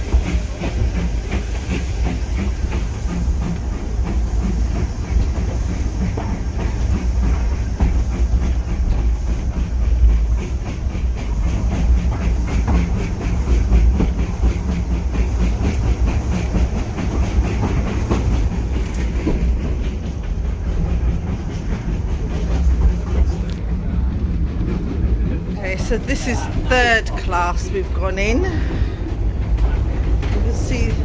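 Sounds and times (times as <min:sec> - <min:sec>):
train rumbling on rails: 0:00.0 - 0:31.0
train wheel clatter: 0:00.0 - 0:31.0.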